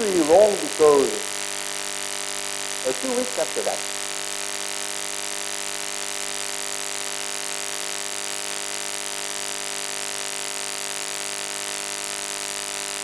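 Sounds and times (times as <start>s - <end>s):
electrical buzz with hiss: 0.0s - 13.0s.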